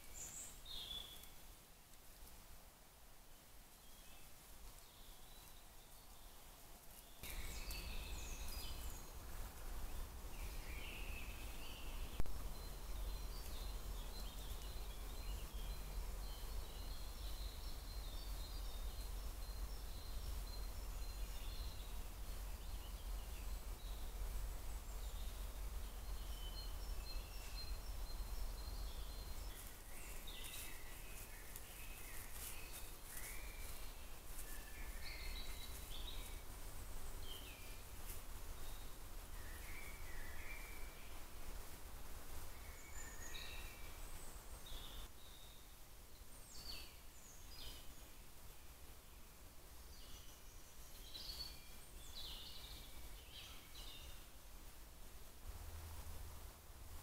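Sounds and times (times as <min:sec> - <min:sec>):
woodland birds singing: 0:00.0 - 0:02.4, 0:03.3 - 0:41.7, 0:42.3 - 0:54.4.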